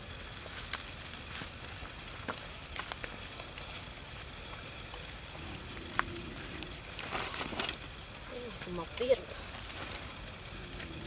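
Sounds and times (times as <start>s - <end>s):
fire popping: 0.0s - 11.0s
wood fire crackling: 0.0s - 11.0s.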